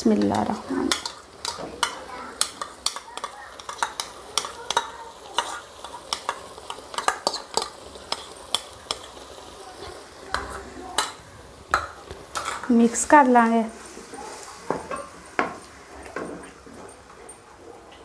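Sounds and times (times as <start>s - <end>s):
sauce sizzling in a wok: 0.0s - 16.7s.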